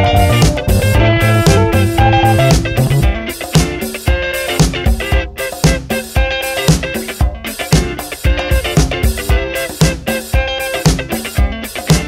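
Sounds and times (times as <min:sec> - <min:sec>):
upbeat pop music: 0:00.0 - 0:12.0.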